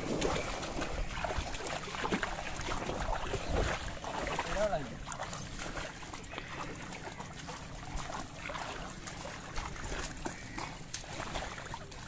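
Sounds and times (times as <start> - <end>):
water sloshing: 0.0 - 12.0.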